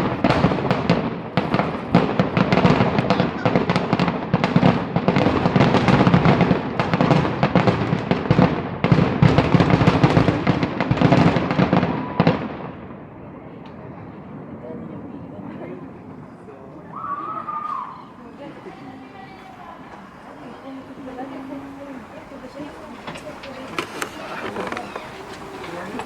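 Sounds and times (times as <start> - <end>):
fireworks banging and crackling: 0.0 - 26.0.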